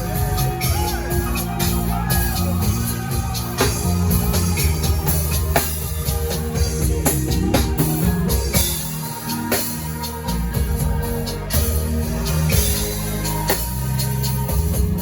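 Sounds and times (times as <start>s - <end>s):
band playing instrumental: 0.0s - 15.0s
drum kit hits: 0.0s - 15.0s.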